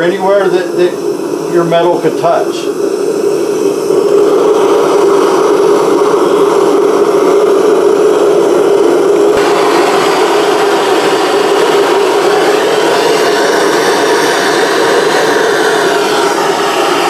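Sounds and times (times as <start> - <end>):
gas torch flame rushing: 0.0 - 17.0.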